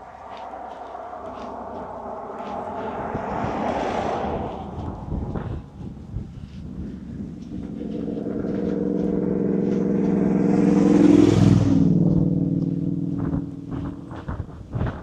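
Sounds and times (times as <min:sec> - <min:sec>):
car driving past: 0:00.0 - 0:14.3.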